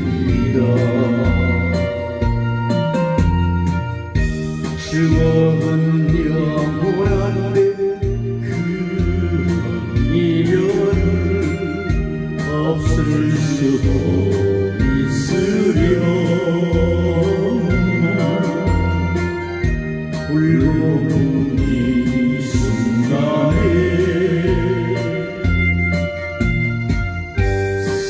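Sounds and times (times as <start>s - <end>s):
band backing track: 0.0s - 28.0s.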